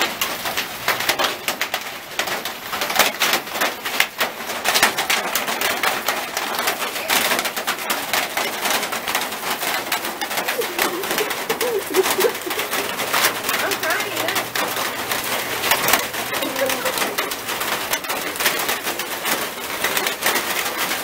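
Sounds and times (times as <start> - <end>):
hail pelting leaves and ground: 0.0 - 21.0.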